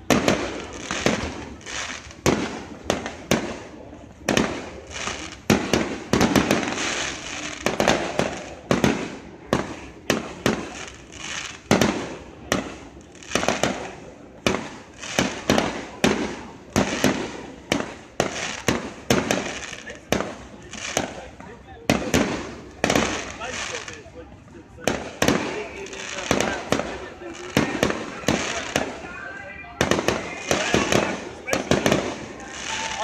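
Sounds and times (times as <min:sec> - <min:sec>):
noisy haze: 0:00.0 - 0:33.0.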